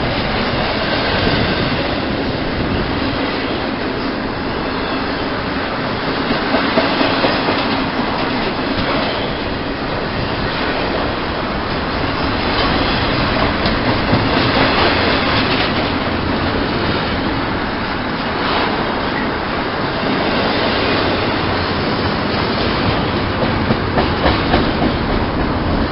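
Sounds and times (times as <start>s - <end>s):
train wheels on rails: 0.0s - 25.9s.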